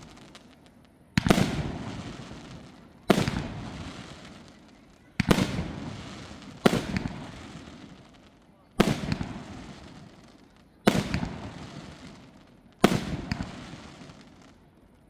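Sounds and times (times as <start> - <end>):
fireworks bangs: 0.0 - 14.6.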